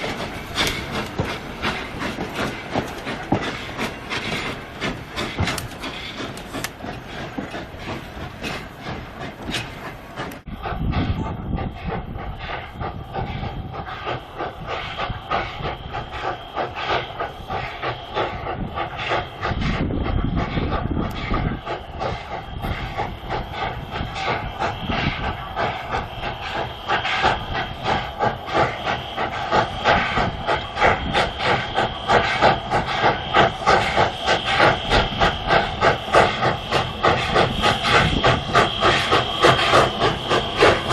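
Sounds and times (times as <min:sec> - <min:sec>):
locomotive exhaust chuffs: 0:00.0 - 0:40.9
steam hiss: 0:00.0 - 0:40.9.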